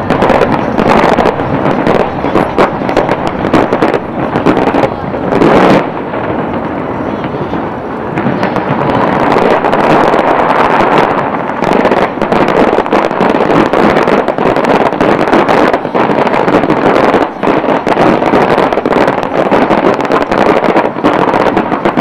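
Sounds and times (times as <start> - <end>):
fireworks crackling and banging: 0.0 - 22.0
wind buffeting microphone: 0.0 - 22.0.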